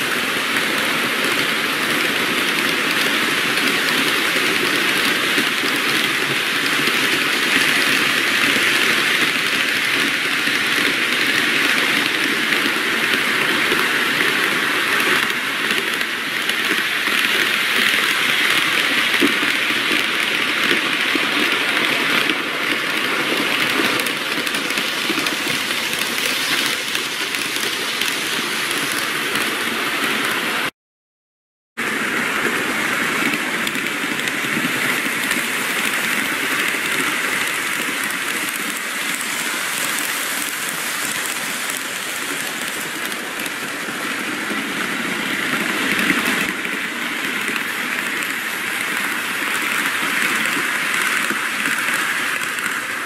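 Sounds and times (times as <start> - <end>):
model train rattling on rails: 0.0 - 30.7, 31.8 - 53.0.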